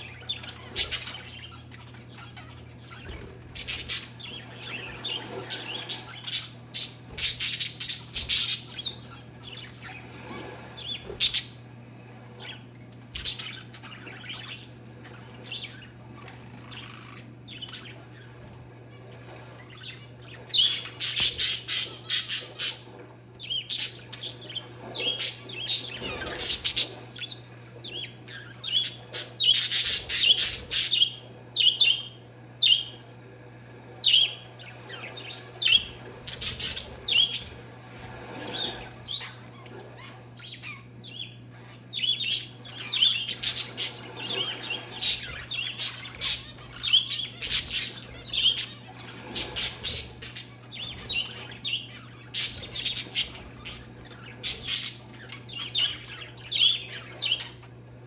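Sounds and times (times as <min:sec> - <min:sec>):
birds chirping and squawking: 0:00.0 - 0:33.2, 0:33.8 - 0:58.0.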